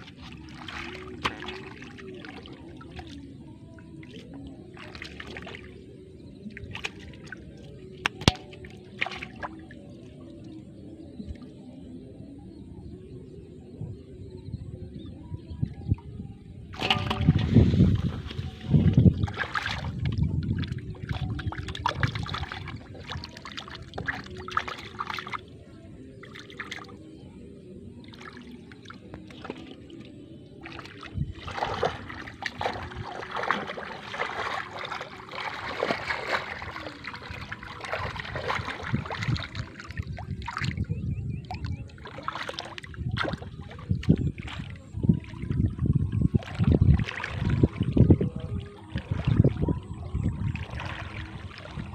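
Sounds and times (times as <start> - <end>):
muddy water splashing: 0.0 - 11.7, 16.7 - 51.9.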